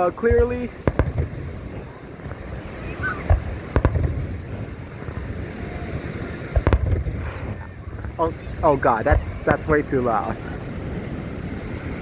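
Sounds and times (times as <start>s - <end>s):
fireworks booms and bangs: 0.0s - 11.7s
loud firework crack: 0.0s - 12.0s.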